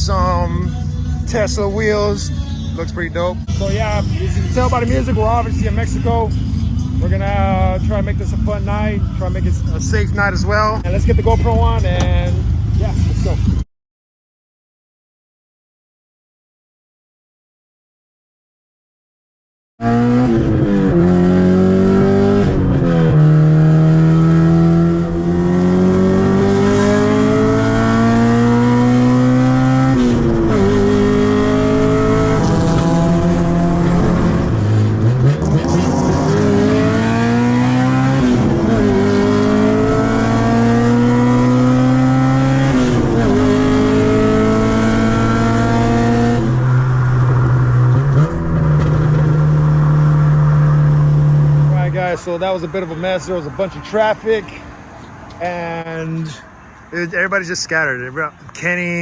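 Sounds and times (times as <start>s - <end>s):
car engine accelerating: 0.0s - 13.6s, 19.8s - 59.0s.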